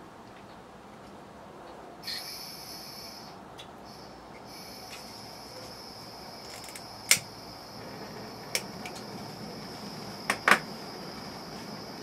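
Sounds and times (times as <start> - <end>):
gas soldering iron hissing: 2.0 - 12.0.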